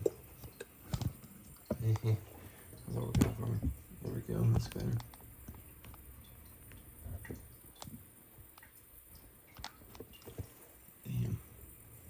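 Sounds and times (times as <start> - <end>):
faint clicks and taps: 0.0 - 10.6.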